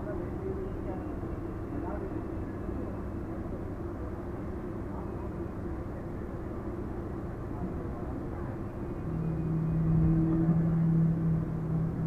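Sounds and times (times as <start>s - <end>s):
standing train rumble and hum: 0.0s - 12.0s.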